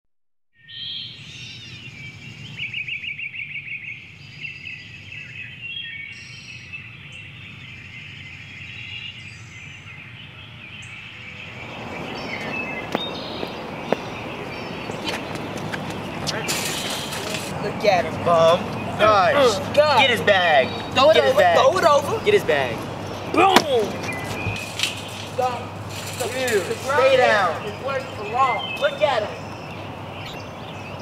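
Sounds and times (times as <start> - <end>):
birds chirping: 0.6 - 31.0
outdoor noise hiss: 0.9 - 31.0.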